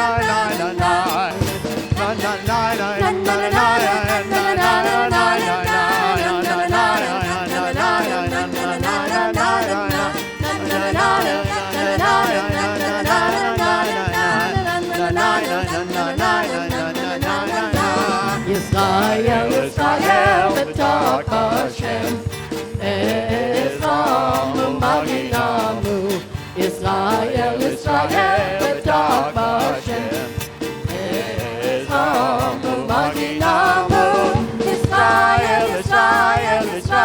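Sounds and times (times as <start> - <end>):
live worship band music: 0.0 - 37.0
steady drum beat: 0.0 - 37.0.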